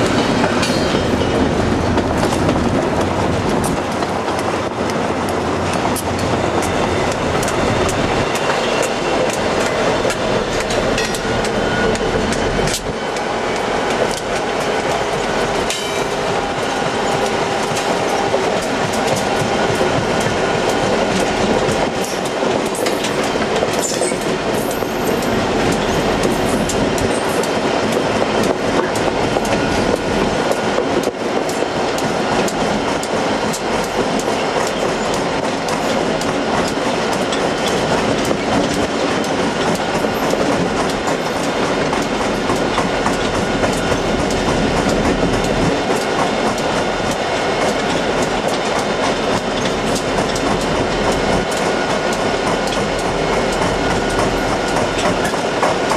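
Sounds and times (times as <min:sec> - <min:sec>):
train wheels clickety-clack: 0:00.0 - 0:55.9.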